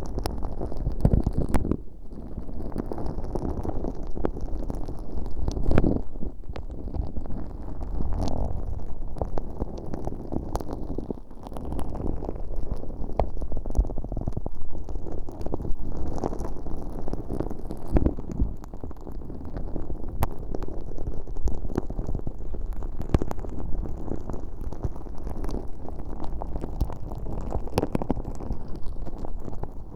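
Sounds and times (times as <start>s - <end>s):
slime squelching on microphone: 0.0s - 29.9s
small sticky clicks: 0.0s - 29.9s.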